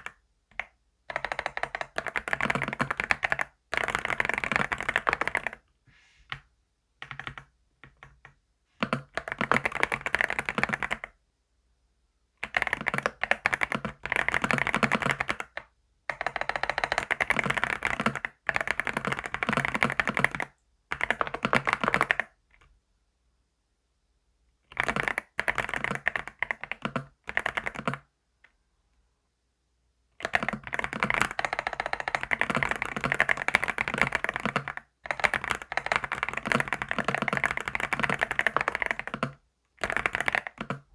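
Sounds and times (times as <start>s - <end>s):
fast typing on keyboard: 0.0s - 5.6s, 7.0s - 11.2s, 12.4s - 22.7s, 24.7s - 28.1s, 30.2s - 40.9s.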